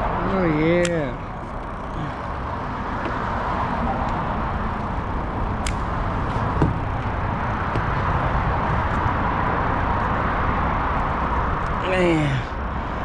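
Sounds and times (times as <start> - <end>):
wind rush on microphone: 0.0 - 13.0.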